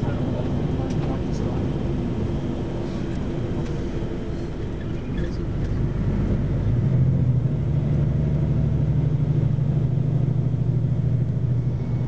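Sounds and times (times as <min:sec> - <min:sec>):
coach engine and road drone: 0:00.0 - 0:12.0.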